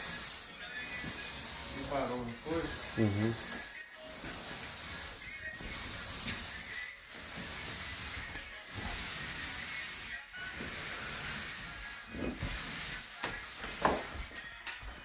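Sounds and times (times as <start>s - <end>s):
paint roller hissing on ceiling: 0.0s - 14.6s.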